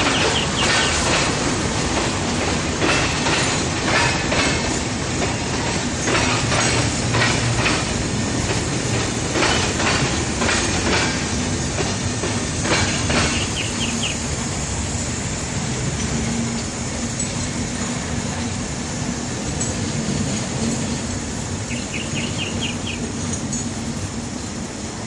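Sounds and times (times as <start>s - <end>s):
low train hum: 0.0s - 25.0s
train wheels clicking over rail joints: 0.0s - 25.0s.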